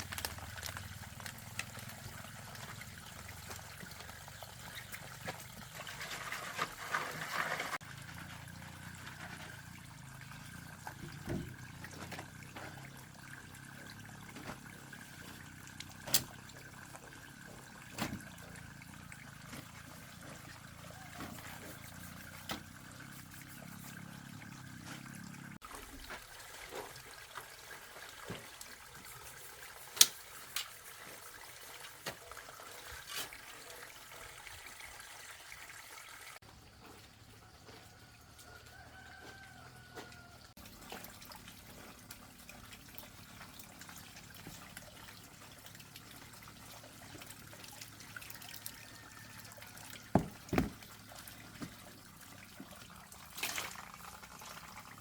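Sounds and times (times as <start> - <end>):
faint water trickling: 0.0 - 55.0.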